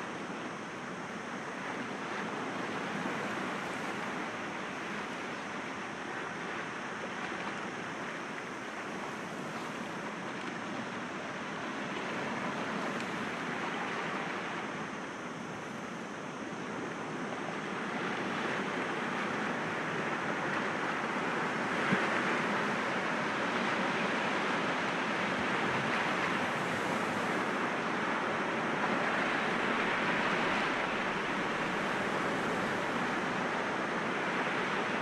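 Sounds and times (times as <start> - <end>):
sea waves surf: 0.0 - 35.0.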